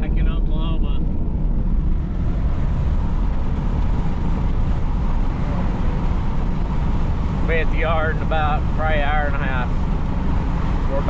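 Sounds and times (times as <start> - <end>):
truck engine and tyres droning: 0.0 - 11.0.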